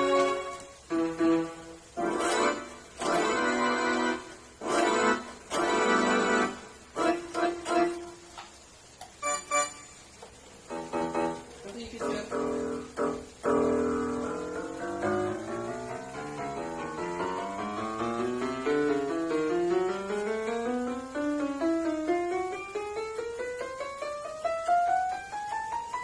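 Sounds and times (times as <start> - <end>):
digital piano scales: 0.0 - 26.0.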